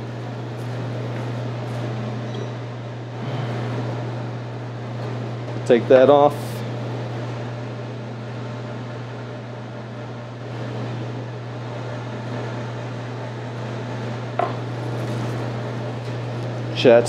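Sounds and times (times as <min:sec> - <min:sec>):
kitchen ventilation hum: 0:00.0 - 0:17.0.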